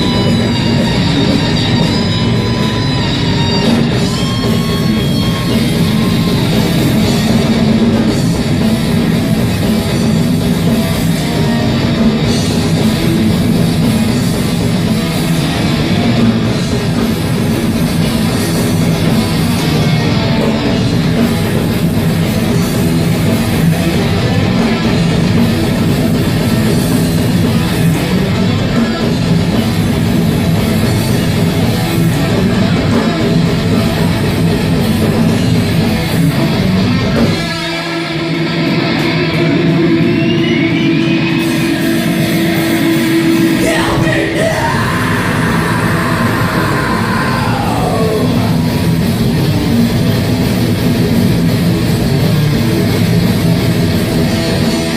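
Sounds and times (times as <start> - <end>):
heavy rock band playing: 0.0 - 54.9.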